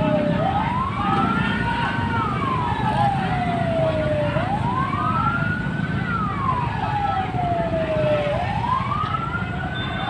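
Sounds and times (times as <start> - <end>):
fire engine siren wailing: 0.0 - 10.0.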